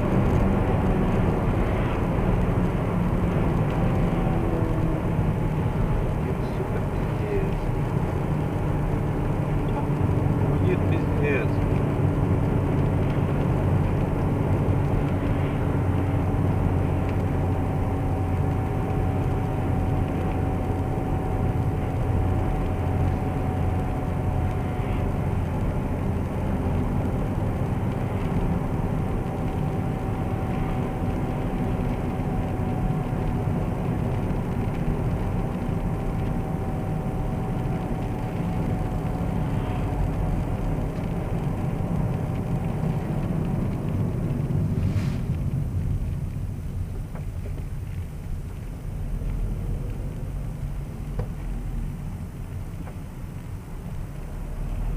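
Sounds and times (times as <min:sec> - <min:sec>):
car cabin drone: 0:00.0 - 0:54.9.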